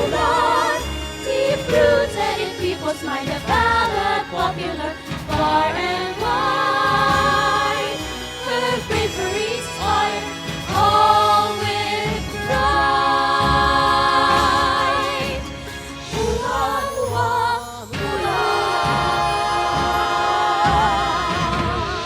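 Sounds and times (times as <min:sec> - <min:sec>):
choir singing: 0:00.0 - 0:22.0
musical accompaniment: 0:00.0 - 0:22.0.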